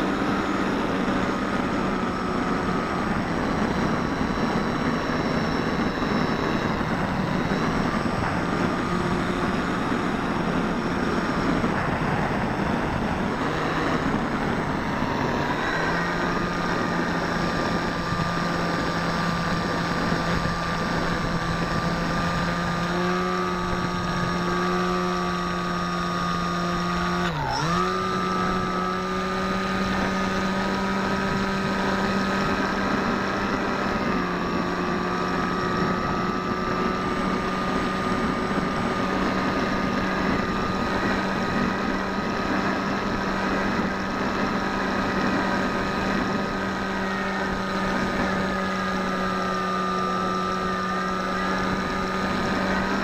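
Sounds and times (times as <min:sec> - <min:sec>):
electric motor and propeller whining: 0:00.0 - 0:53.0.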